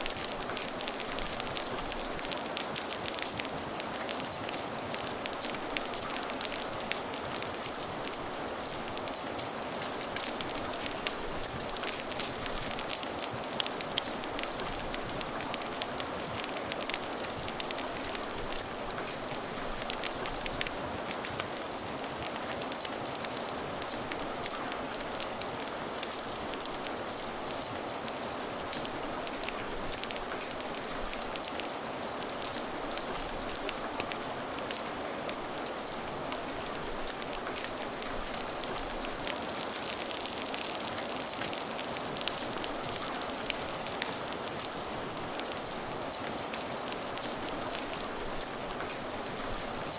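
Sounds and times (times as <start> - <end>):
steady rain: 0.0 - 49.9
wood fire crackling: 0.0 - 49.9.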